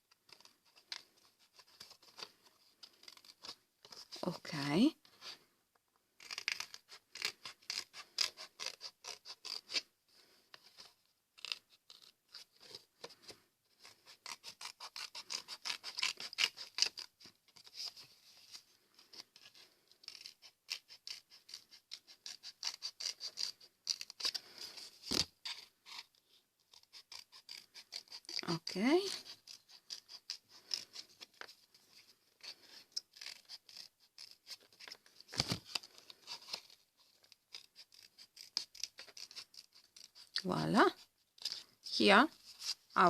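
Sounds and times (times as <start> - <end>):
scissors cutting paper: 0.2 - 4.2, 6.2 - 9.8, 10.8 - 26.1, 26.7 - 41.6.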